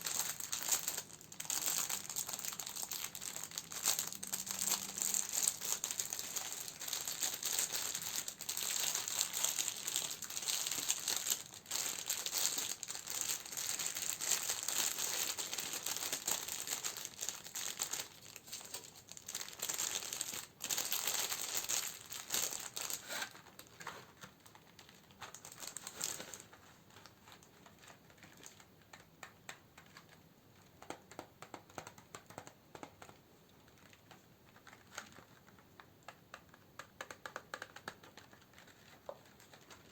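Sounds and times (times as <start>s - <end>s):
plastic and paper crinkling: 0.0s - 39.9s.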